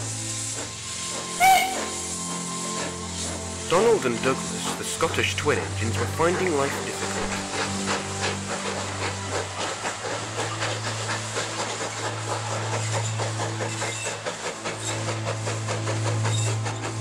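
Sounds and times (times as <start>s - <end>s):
steam hissing: 0.0s - 17.0s
steam locomotive chuffing: 0.0s - 17.0s.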